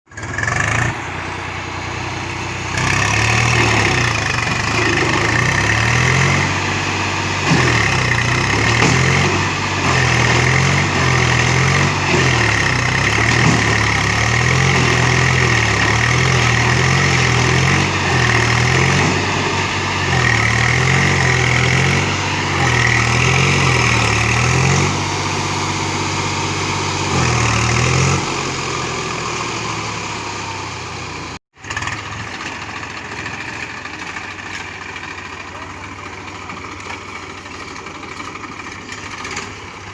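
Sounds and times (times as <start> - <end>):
tractor engines labouring: 0.1 - 39.9.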